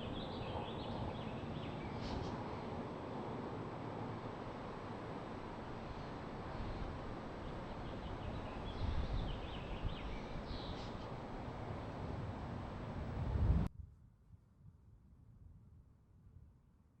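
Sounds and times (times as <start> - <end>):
rushing hiss with low rumble: 0.0 - 13.7.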